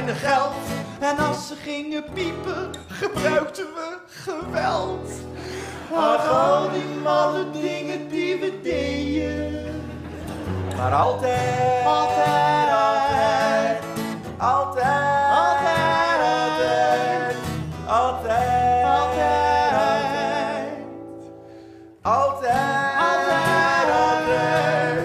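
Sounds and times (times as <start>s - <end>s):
strummed acoustic guitar: 0.0s - 3.7s, 4.4s - 25.0s
two men singing in harmony: 0.0s - 21.0s, 22.0s - 25.0s.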